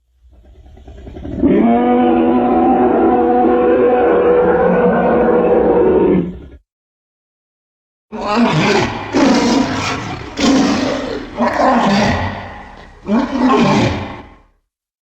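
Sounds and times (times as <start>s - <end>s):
loud bestial roars: 0.4s - 6.6s, 8.1s - 14.5s.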